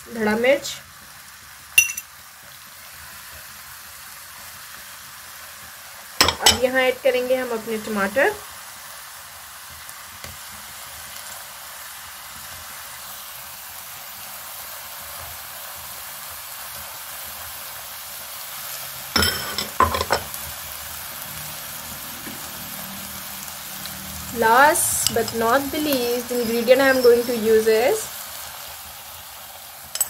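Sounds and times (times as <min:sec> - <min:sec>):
chicken sizzling in a pan: 0:00.0 - 0:30.0.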